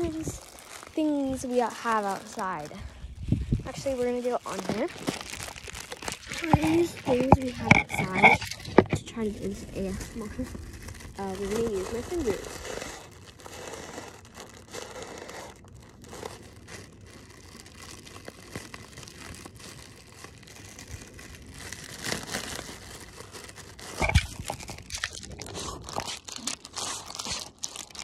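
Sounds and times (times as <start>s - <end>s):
plastic air pillow crackling: 0.0s - 28.0s.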